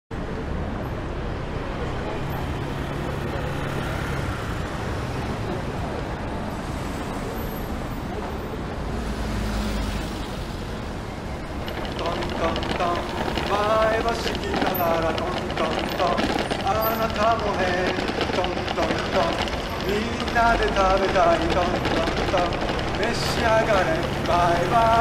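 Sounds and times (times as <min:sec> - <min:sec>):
distant traffic: 0:00.2 - 0:25.0.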